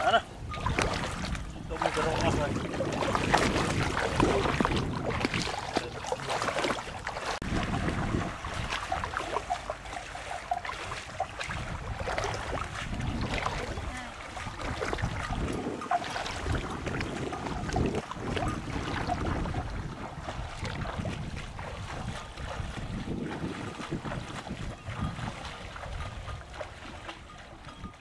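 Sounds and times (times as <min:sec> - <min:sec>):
wading through shallow water: 0:00.0 - 0:28.0
wind buffeting microphone: 0:00.2 - 0:28.0.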